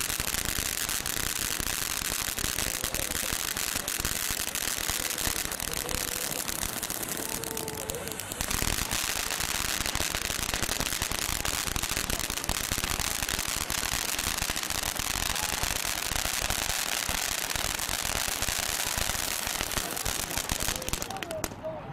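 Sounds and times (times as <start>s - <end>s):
firework spark jet hissing: 0.0s - 21.2s
firework crackling and popping: 0.0s - 21.7s.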